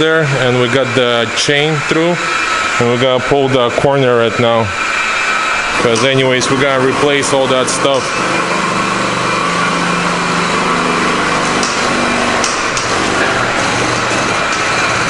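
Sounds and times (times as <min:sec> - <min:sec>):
hydraulic pump running: 0:00.0 - 0:15.0.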